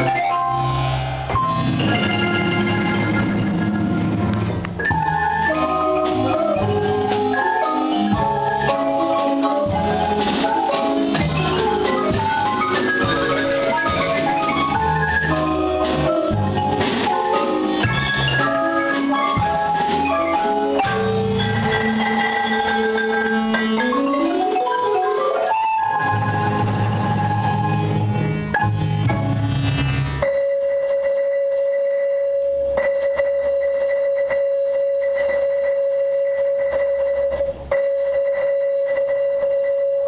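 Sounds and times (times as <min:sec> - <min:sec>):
marimba ensemble playing: 0:00.0 - 0:40.0.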